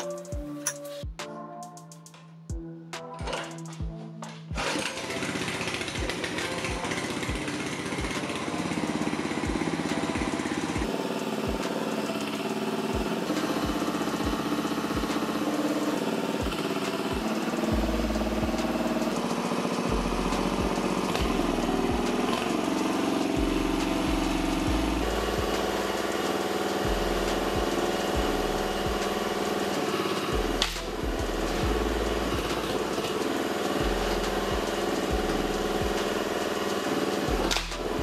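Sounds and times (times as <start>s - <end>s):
small gasoline engine running: 4.5s - 38.0s.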